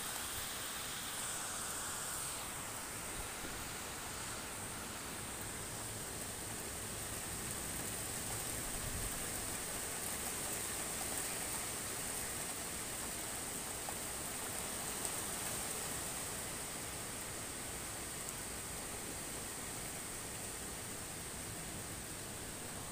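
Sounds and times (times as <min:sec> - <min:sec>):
light rain on roofs: 0:00.0 - 0:22.9.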